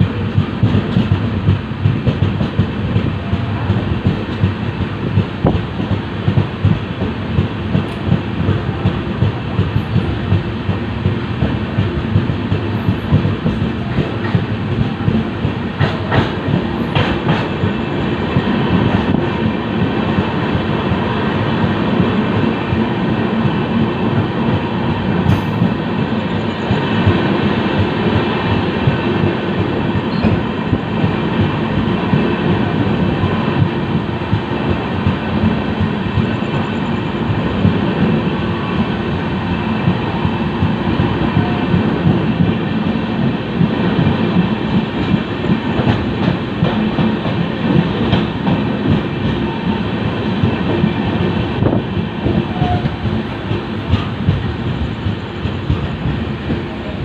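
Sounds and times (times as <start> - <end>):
rapid clatter over track: 0.0 - 24.6, 25.2 - 57.0
train wheels rumbling on rail: 0.0 - 57.0.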